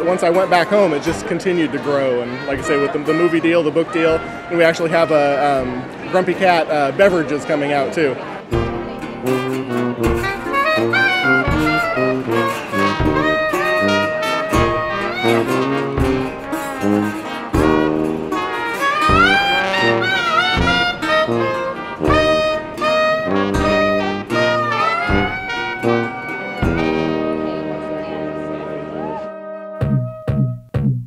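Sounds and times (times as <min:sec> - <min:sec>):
jazz music with brass lead: 0:01.0 - 0:06.1, 0:08.2 - 0:30.8.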